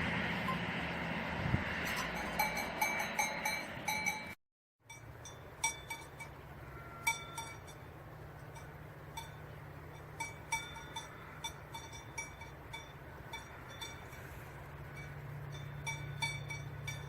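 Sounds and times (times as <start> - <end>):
small bell clinking: 1.9 - 7.9, 8.5 - 17.0.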